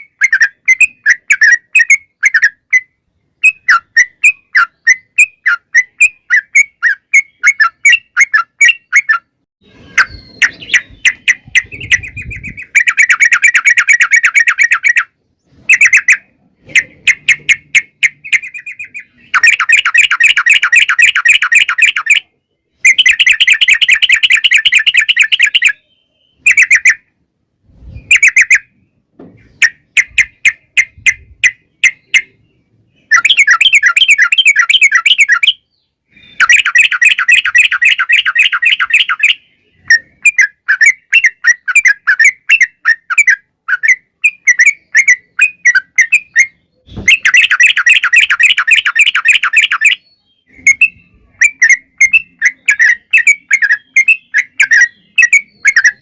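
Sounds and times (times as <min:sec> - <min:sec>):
bird singing chattering trills: 0:00.0 - 0:27.2, 0:27.8 - 0:56.0.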